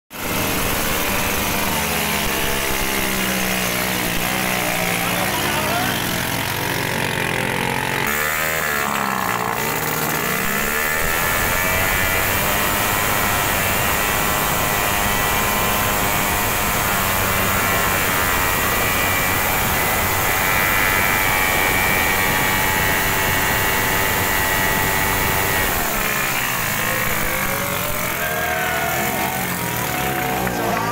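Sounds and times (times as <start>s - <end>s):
motorcycle engines at high revs: 0.1s - 30.9s.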